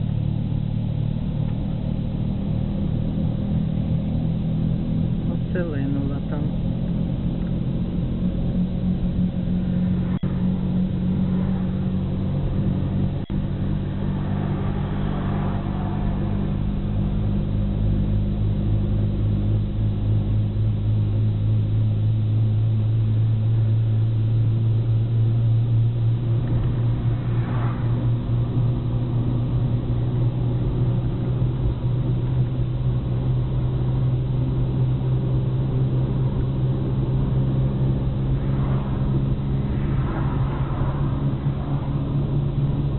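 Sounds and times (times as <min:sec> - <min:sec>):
car engine and tyre drone: 0:00.0 - 0:42.9.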